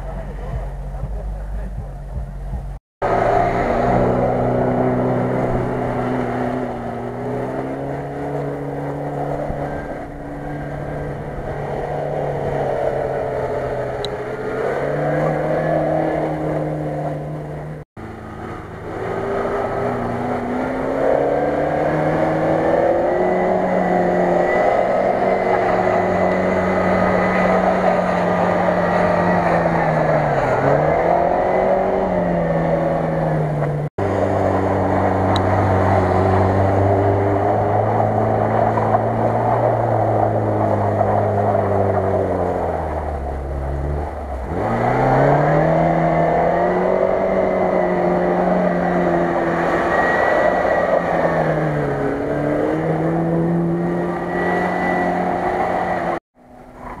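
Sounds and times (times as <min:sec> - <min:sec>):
motor pitches gliding up and down: 0:00.0 - 0:57.0.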